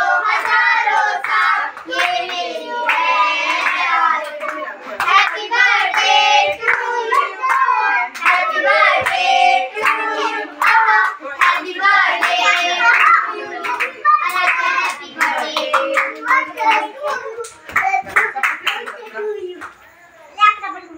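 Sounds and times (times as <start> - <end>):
children singing: 0.0 - 18.3
hands clapping: 0.2 - 19.8.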